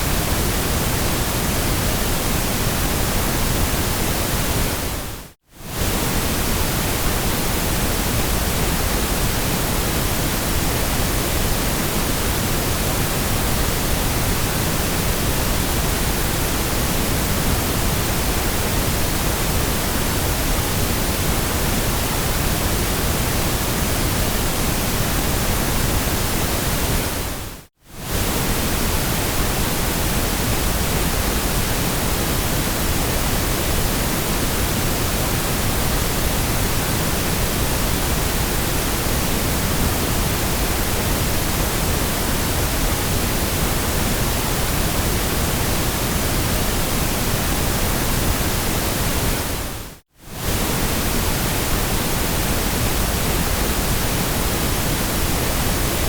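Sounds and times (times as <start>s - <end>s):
electronic white noise hiss: 0.0s - 56.0s.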